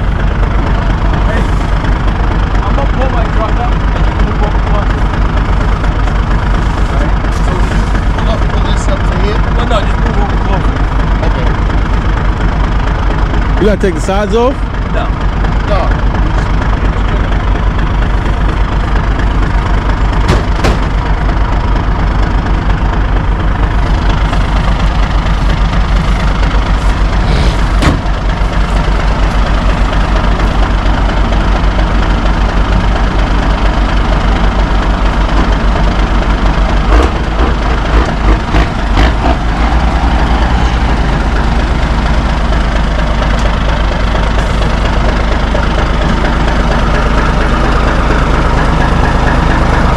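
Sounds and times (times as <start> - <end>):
truck diesel engine idling: 0.0 - 49.9.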